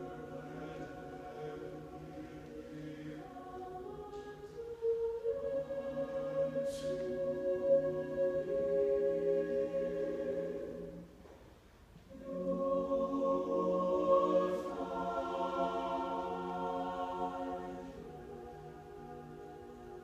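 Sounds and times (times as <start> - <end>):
mixed choir singing chords: 0.0 - 11.3, 12.1 - 20.0.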